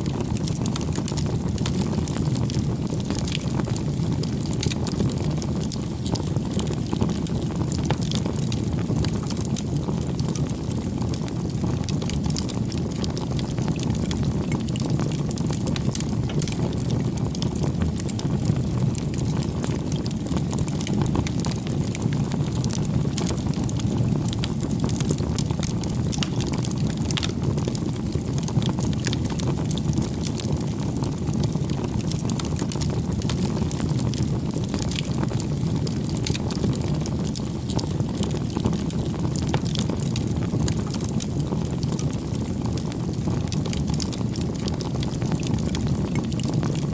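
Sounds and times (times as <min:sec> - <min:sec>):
campfire flames rumbling: 0:00.0 - 0:46.9
fire crackling and popping: 0:00.0 - 0:46.9.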